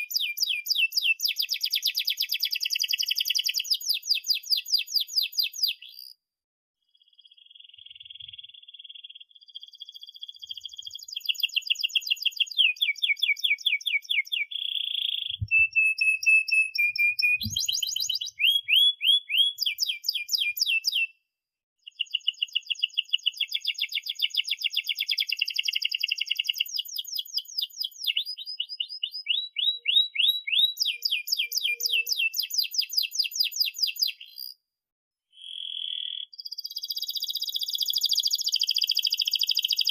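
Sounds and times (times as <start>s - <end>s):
canary singing trills: 0.0s - 6.2s, 6.9s - 21.1s, 21.8s - 34.6s, 35.4s - 39.9s.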